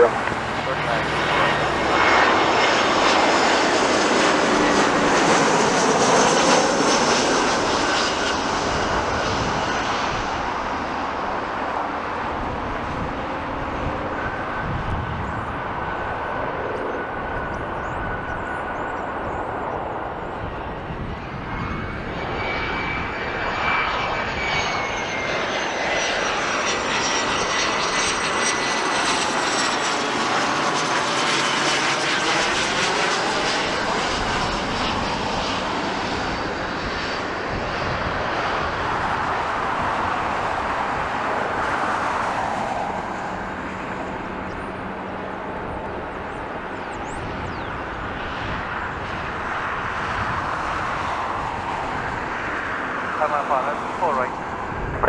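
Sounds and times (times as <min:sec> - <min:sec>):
high engine whine: 0:00.0 - 0:49.0, 0:50.9 - 0:55.0
jet airliner engines passing: 0:00.0 - 0:55.0.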